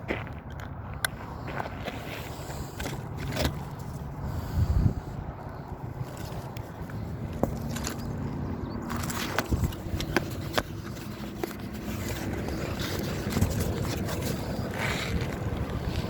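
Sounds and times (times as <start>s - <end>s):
road traffic rumble: 0.0s - 16.0s
wind: 0.0s - 16.0s.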